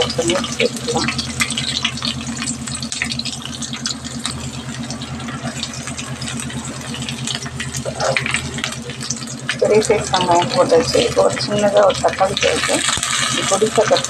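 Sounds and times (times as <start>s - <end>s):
onions sizzling in oil: 0.0s - 14.0s
small engine chugging: 0.0s - 14.0s.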